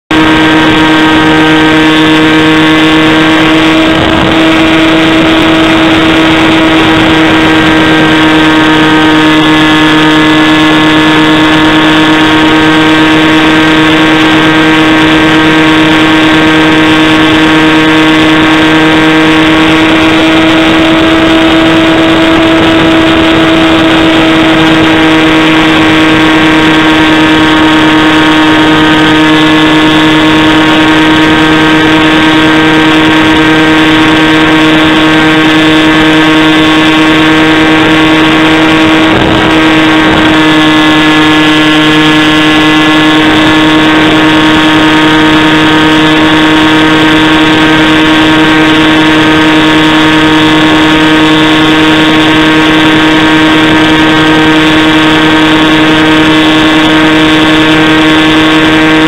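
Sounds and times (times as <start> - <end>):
electric motor and propeller whine: 0.1 - 59.0.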